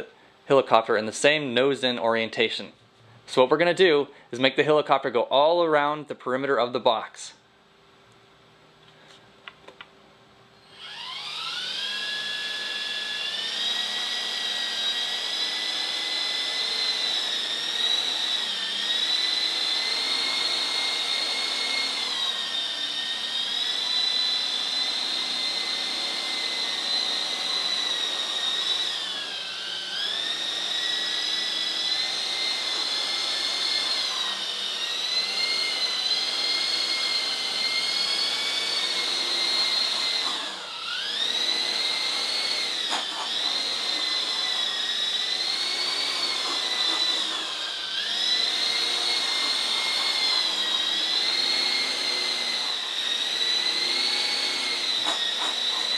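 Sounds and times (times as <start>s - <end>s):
rc helicopter motor whine: 10.6s - 55.9s.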